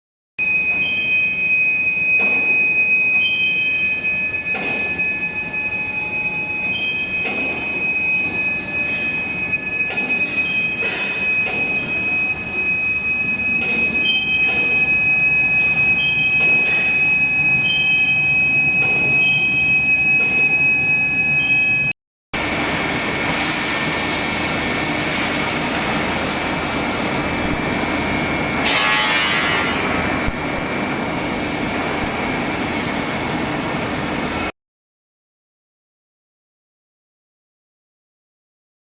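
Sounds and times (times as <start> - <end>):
high-pitched induction heater whine: 0.4 - 34.5.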